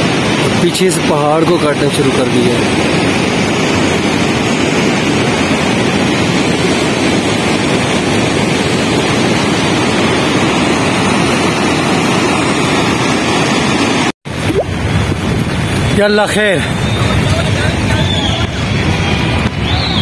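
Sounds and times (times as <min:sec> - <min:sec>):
rushing river water roar: 0:00.0 - 0:19.2.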